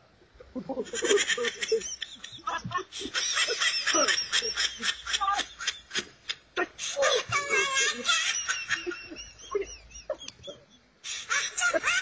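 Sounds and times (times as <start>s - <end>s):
laughter in bursts: 0.6s - 12.0s.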